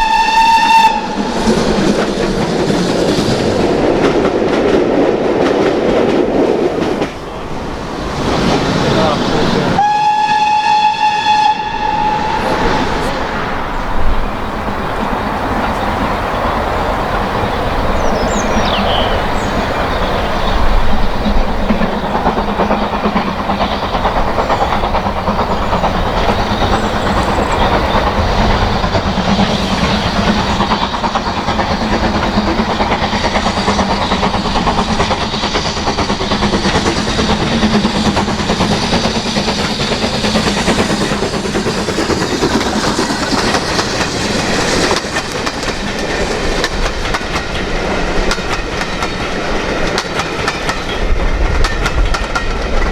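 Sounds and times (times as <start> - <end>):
steam train running past: 0.0 - 52.9
wheels clicking over rail joints: 0.0 - 52.9.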